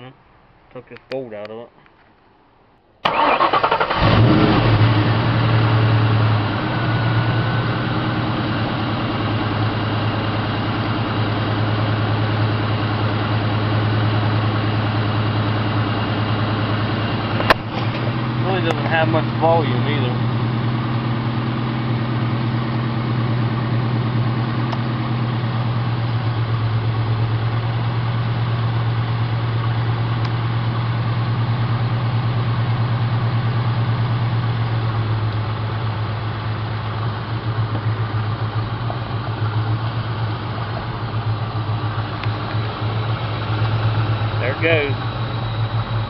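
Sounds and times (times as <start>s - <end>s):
car engine idling: 3.0s - 46.0s.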